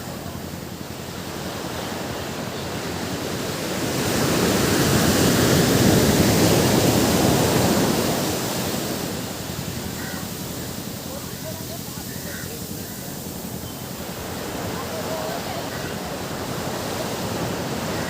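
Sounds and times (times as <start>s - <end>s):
ocean waves breaking on beach: 0.0s - 18.0s.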